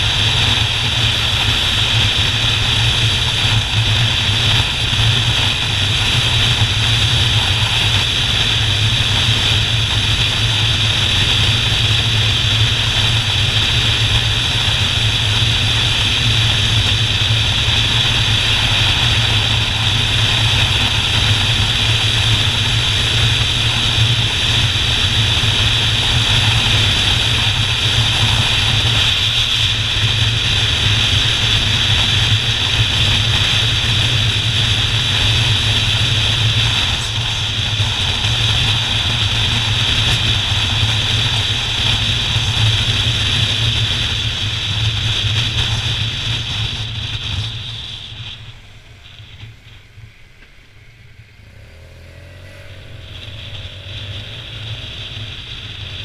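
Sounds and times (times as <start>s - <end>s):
motorcycle engine: 0.0s - 56.0s
wind noise: 0.0s - 56.0s.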